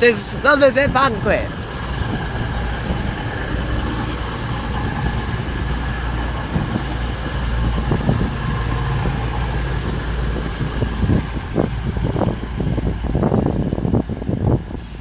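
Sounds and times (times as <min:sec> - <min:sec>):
train diesel engines idling: 0:00.0 - 0:15.0.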